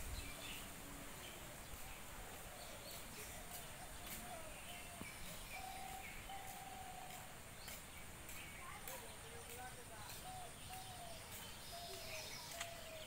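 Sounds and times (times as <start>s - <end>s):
distant birds calling: 0.0s - 13.0s
faint outdoor hiss: 0.0s - 13.0s.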